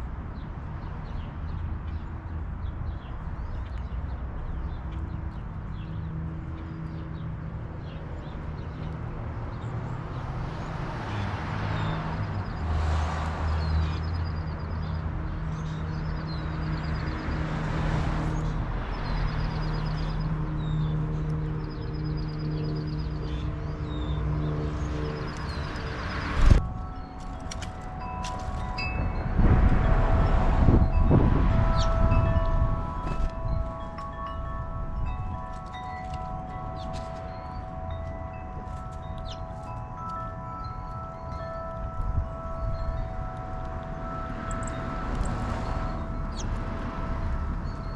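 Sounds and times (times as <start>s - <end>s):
small birds trilling: 0.0s - 30.0s, 30.7s - 47.9s
vehicles passing: 0.0s - 47.9s.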